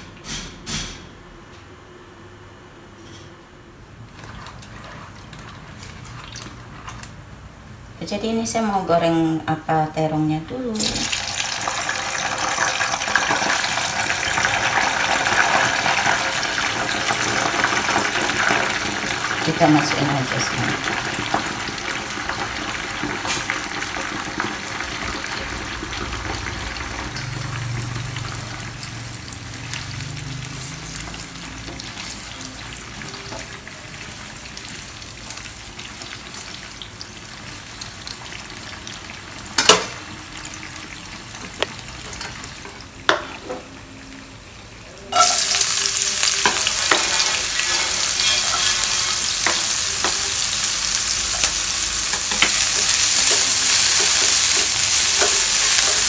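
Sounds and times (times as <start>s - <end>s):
food frying in a pot: 4.0s - 56.0s
loud sizzling in hot oil: 10.6s - 56.0s.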